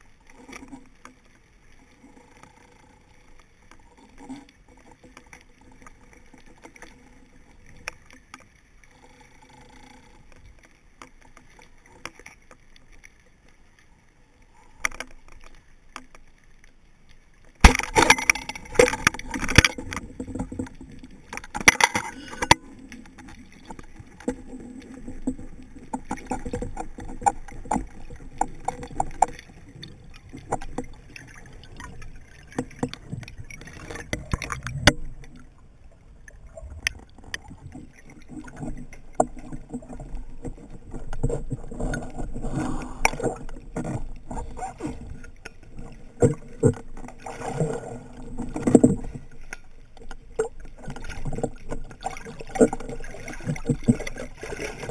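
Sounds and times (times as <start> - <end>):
scattered underwater clicks: 0.0 - 54.9
underwater water noise: 0.0 - 54.9
water gurgling: 0.0 - 54.9.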